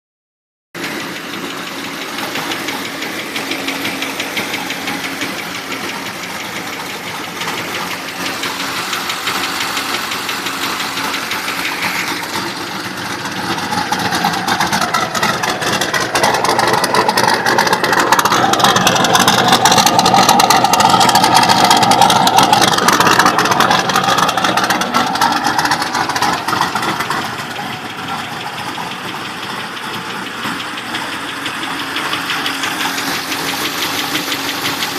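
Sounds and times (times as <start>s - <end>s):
car engine running: 0.8s - 34.9s
fast engine ticking: 0.8s - 34.9s.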